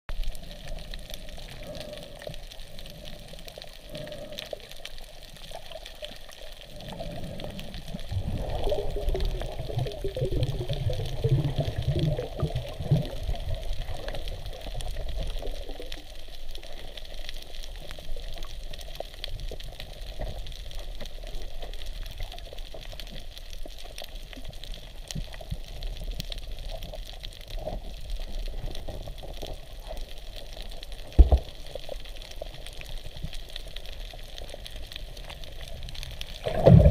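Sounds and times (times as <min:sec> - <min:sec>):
fine crackling clicks: 0:00.1 - 0:36.9.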